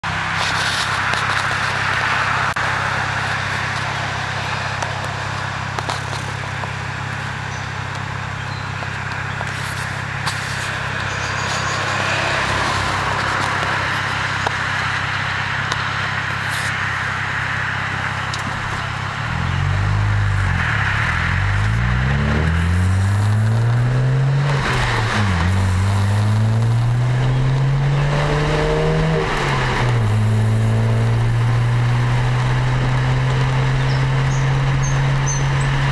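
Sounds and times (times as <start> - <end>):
car engine and exhaust droning: 0.0 - 35.9
road noise: 0.0 - 35.9.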